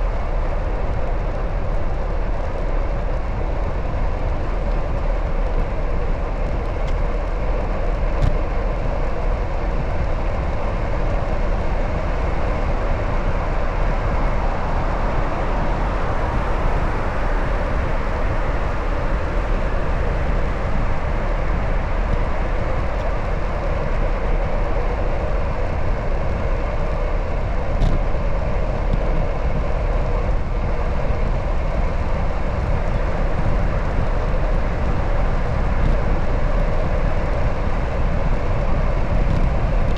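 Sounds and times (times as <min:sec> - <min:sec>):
bicycle rolling noise: 0:00.0 - 0:39.9
wind rushing on microphone: 0:00.0 - 0:39.9.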